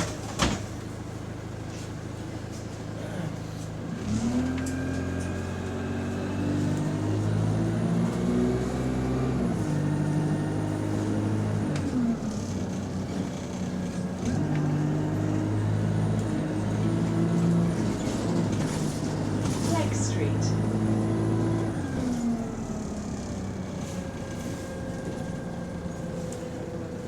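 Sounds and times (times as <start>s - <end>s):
bus engine accelerating: 0.1s - 27.0s.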